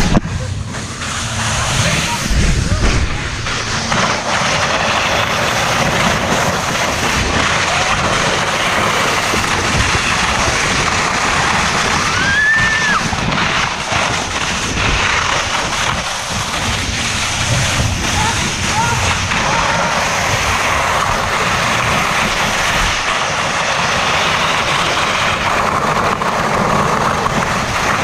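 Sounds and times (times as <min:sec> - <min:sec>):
vehicle running: 0:00.0 - 0:28.0
wind buffeting microphone: 0:00.0 - 0:28.0.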